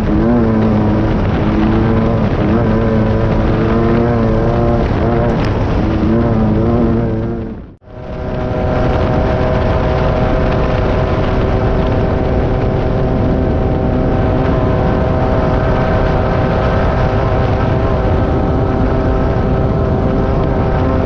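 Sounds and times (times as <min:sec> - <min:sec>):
engine running at high speed: 0:00.0 - 0:21.0
loud rushing noise: 0:00.0 - 0:21.0.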